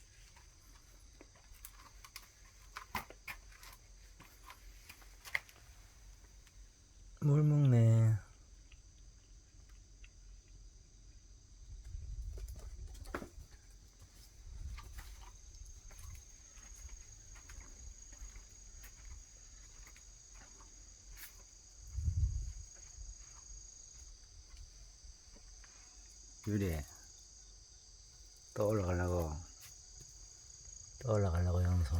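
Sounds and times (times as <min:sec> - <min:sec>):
crickets chirring: 0:00.0 - 0:31.9.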